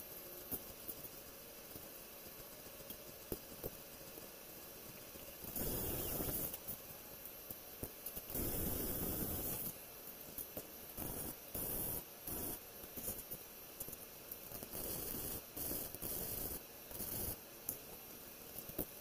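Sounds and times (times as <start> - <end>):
arc welding crackling hiss: 0.0 - 19.0.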